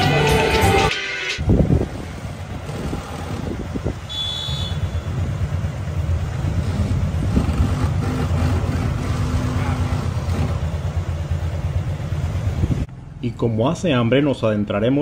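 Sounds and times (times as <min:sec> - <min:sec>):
motorcycle engine rumble: 0:00.0 - 0:15.0
street traffic: 0:00.0 - 0:15.0.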